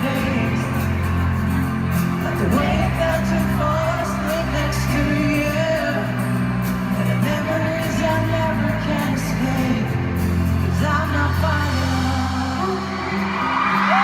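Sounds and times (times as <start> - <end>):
live pop-rock band playing: 0.0 - 14.0
person singing: 0.0 - 14.0.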